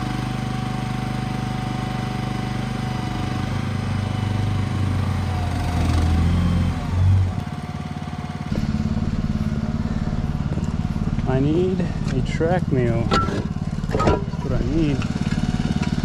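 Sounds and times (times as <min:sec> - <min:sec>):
engine working under load: 0:00.0 - 0:16.0.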